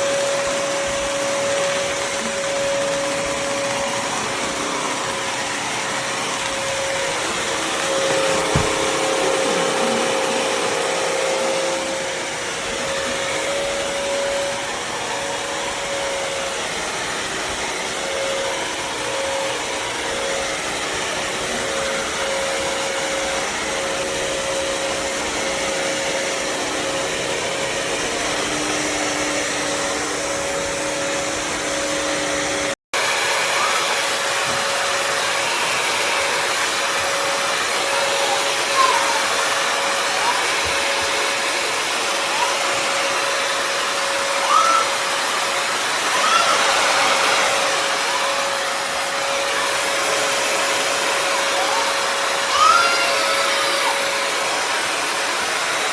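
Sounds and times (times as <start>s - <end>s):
wet-dry vacuum running: 0.0s - 55.9s.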